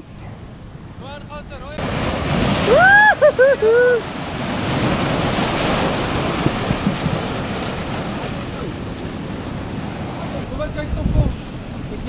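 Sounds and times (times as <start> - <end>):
surf washing between boulders: 1.4 - 12.0
wind buffeting microphone: 1.8 - 12.0.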